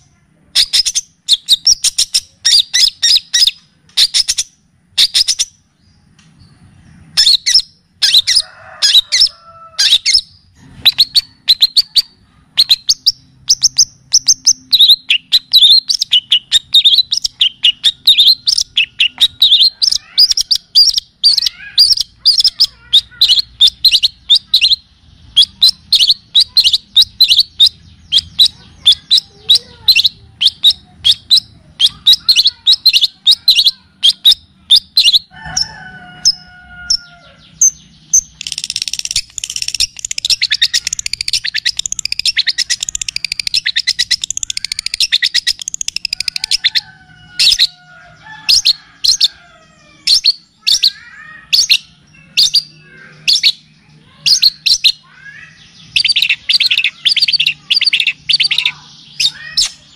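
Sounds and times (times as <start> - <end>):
rapid chattering bird trill: 0.0 - 5.6, 7.1 - 59.9
songbird chirps: 0.0 - 59.9.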